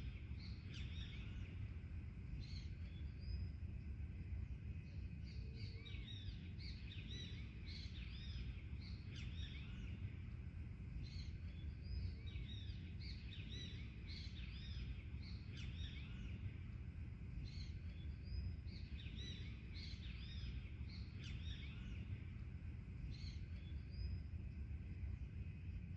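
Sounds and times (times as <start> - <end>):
birds chirping: 0.0 - 3.6, 4.7 - 25.7
faint high drone: 0.0 - 25.9
low background rumble: 0.0 - 25.9.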